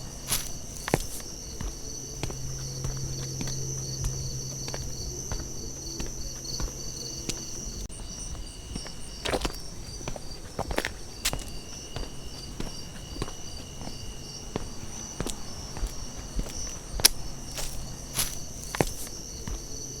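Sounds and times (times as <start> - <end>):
footsteps in a forest: 0.0 - 20.0
insects chirping: 0.0 - 20.0.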